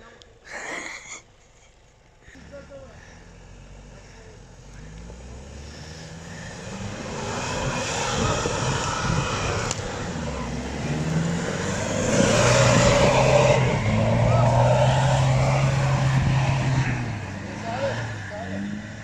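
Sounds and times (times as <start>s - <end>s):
tyres churning through snow: 2.3s - 19.0s
engine revving under load: 2.4s - 19.0s.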